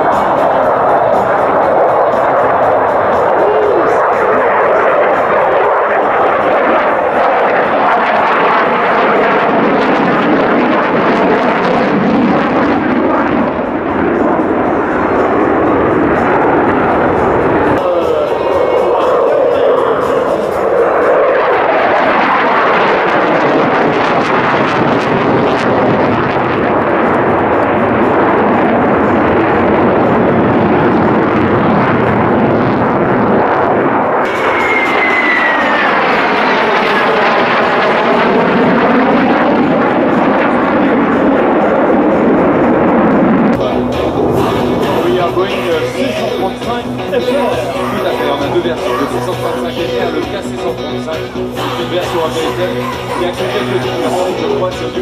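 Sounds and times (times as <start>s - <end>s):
jet engine loud rushing: 0.0s - 55.0s.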